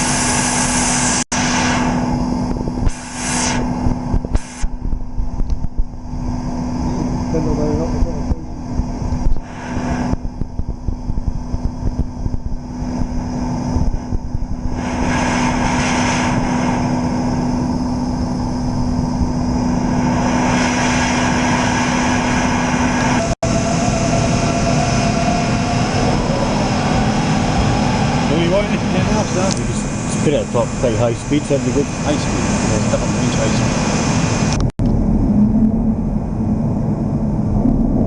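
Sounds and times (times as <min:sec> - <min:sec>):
high whine: 0:00.0 - 0:38.0
machine low hum: 0:00.0 - 0:38.0
whirring rush: 0:00.0 - 0:38.0.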